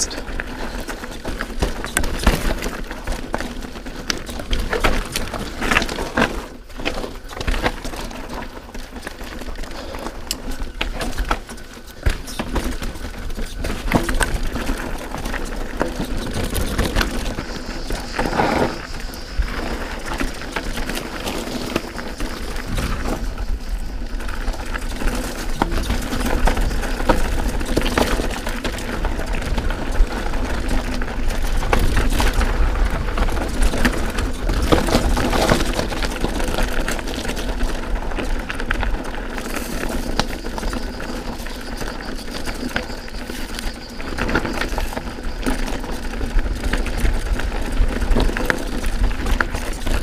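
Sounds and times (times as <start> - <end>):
bike tyres crunching over stones: 0.0 - 50.0.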